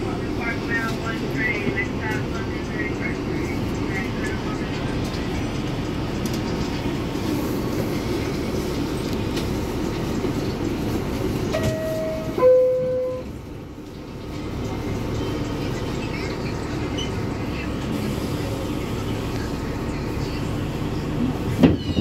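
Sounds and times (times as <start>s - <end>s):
subway car rumble: 0.0s - 22.0s.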